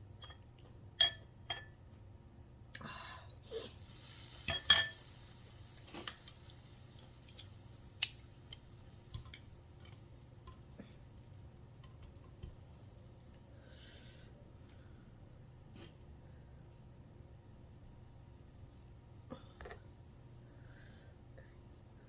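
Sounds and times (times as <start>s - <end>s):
faint hiss: 2.9s - 22.0s.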